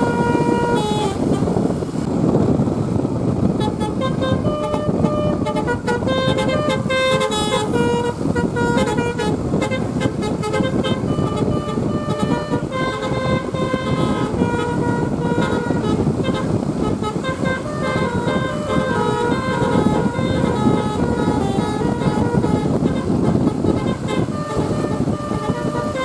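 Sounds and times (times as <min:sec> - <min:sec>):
multi-tone bus air horn tune: 0:00.0 - 0:02.4, 0:03.3 - 0:26.0
traffic rumble: 0:00.0 - 0:26.0.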